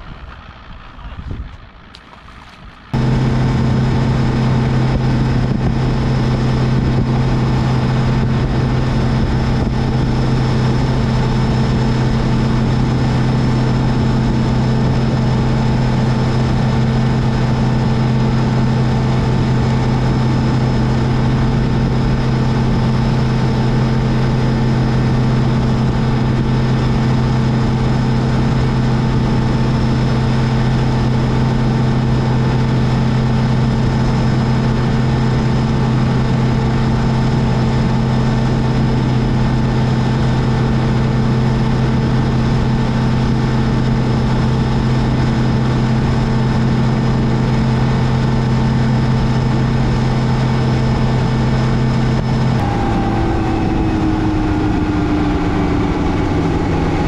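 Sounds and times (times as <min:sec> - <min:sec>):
outboard motor drone: 0:00.0 - 0:57.0
rush of wind and water: 0:00.0 - 0:57.0.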